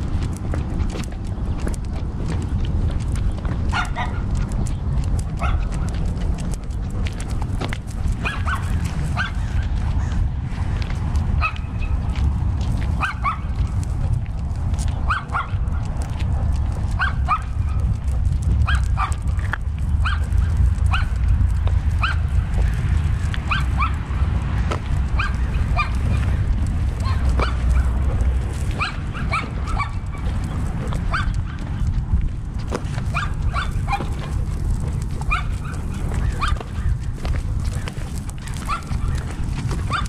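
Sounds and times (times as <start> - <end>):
low rumble of dog walking: 0.0 - 40.0.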